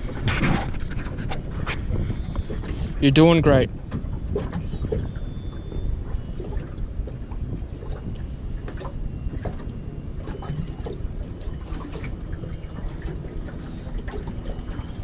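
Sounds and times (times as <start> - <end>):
water lapping against hull: 0.0 - 15.0
wind noise on microphone: 0.0 - 15.0.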